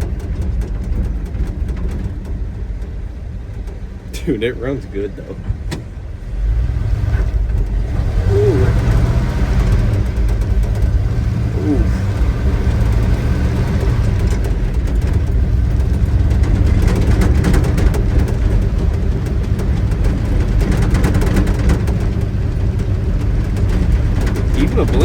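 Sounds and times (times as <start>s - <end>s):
road noise: 0.0s - 25.0s
truck engine droning: 0.0s - 25.0s.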